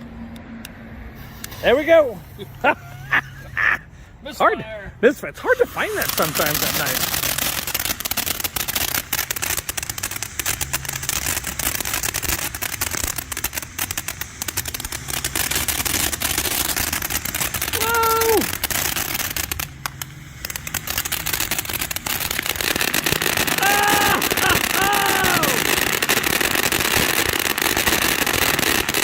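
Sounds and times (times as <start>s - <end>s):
firework fountain crackling: 1.0s - 29.0s.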